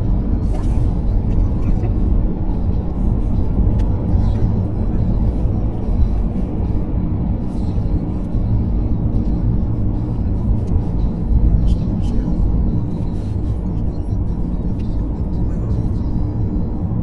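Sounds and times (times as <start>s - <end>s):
car driving at highway speed: 0.0s - 17.0s.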